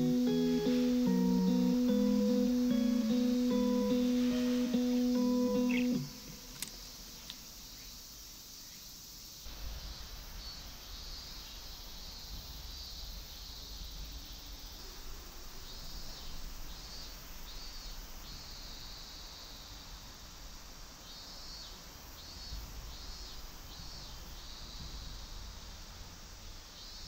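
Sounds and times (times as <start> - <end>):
faint outdoor ambience: 0.0 - 27.0
insects chirping: 0.0 - 27.0.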